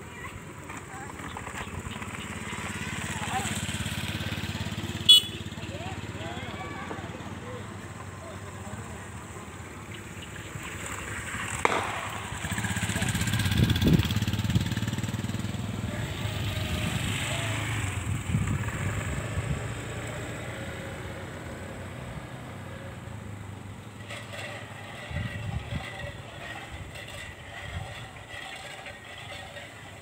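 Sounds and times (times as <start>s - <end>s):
motor scooter riding past: 0.0s - 30.0s.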